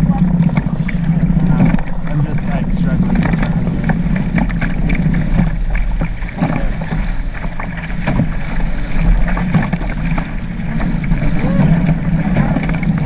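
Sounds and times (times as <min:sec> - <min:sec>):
water rushing past boat: 0:00.0 - 0:13.0
wind buffeting microphone: 0:00.0 - 0:13.0.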